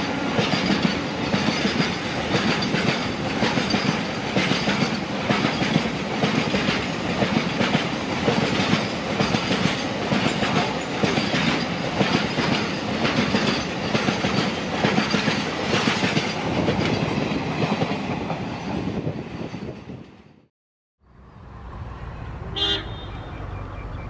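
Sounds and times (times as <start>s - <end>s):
train wheels clickety-clack on rails: 0.0s - 20.4s.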